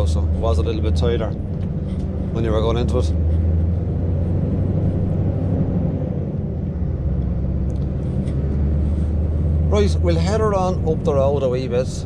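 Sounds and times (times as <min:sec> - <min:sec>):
road noise: 0:00.0 - 0:12.0
truck engine droning: 0:00.0 - 0:12.0.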